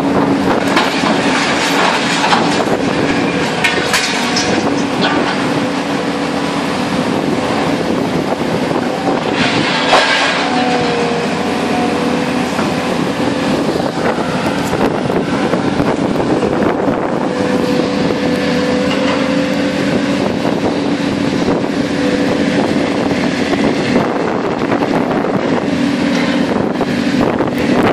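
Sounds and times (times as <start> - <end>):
machine power unit humming: 0.0 - 27.9
wind buffeting microphone: 0.0 - 27.9.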